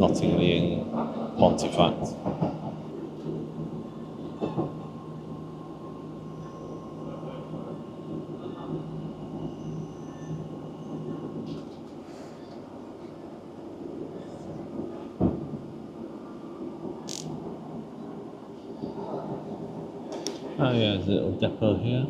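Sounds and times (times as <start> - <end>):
train rumble and hum: 0.0 - 22.0.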